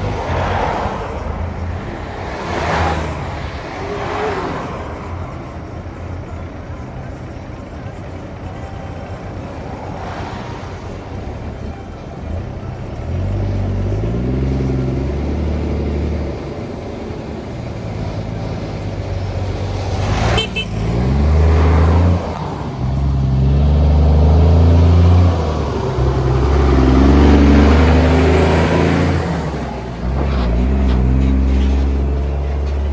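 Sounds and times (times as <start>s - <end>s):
truck engine accelerating: 0.0s - 32.9s.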